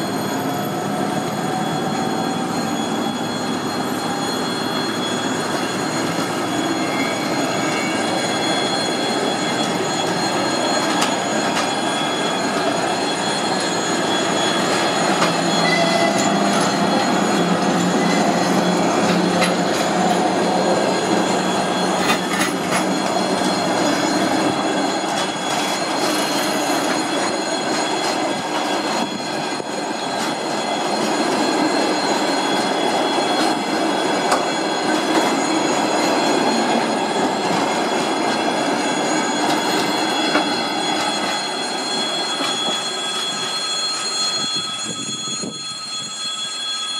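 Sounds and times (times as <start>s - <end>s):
high wheel squeal: 0.0s - 46.9s
train wheels on rails: 0.0s - 46.9s.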